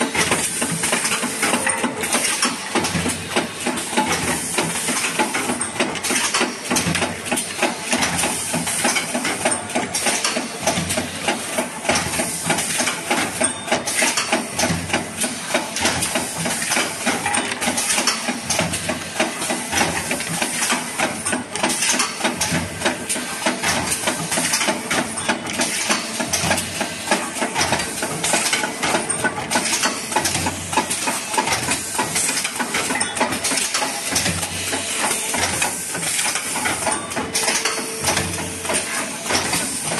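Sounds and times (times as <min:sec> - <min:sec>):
machine clatter and clicking: 0:00.0 - 0:39.9.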